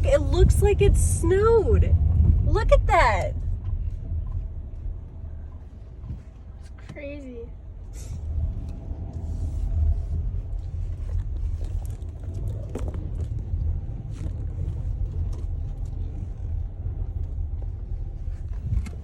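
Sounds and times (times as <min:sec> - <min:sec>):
car rumble inside cabin: 0:00.0 - 0:19.0.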